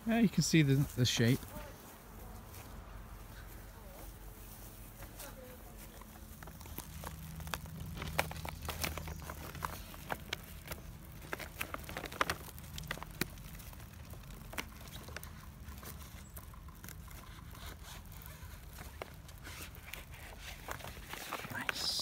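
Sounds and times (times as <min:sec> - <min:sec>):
low steady hum: 0:00.0 - 0:22.0
plastic tarp and tape crinkling: 0:00.0 - 0:22.0.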